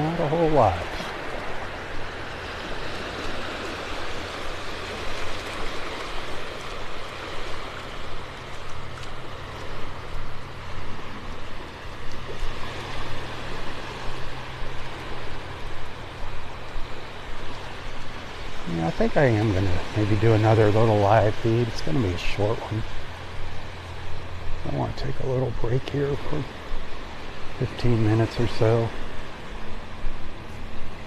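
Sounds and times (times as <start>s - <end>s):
surf washing on a beach: 0.0s - 31.0s.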